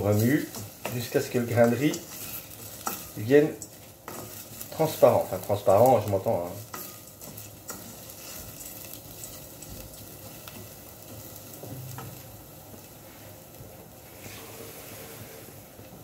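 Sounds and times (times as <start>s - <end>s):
wooden spoon stirring: 0.0s - 12.9s
rice sizzling in hot oil: 0.0s - 16.0s.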